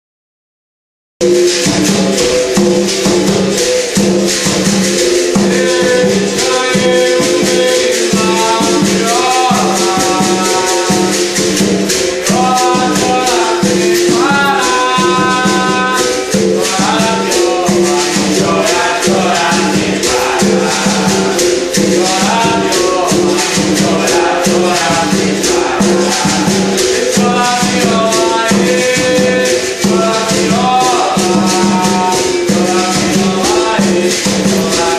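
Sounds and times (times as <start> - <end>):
hand drum: 1.2 - 34.9
shaker rattle: 1.2 - 34.9
man singing: 4.9 - 34.9.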